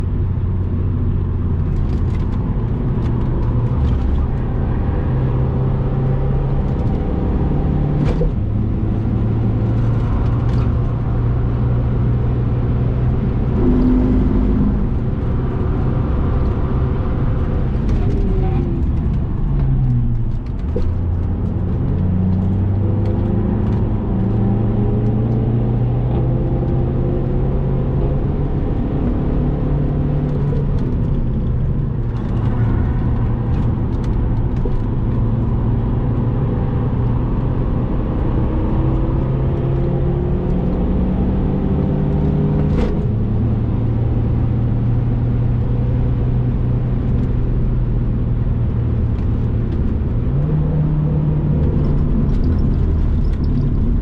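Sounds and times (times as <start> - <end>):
car engine running hard: 0.0 - 54.0.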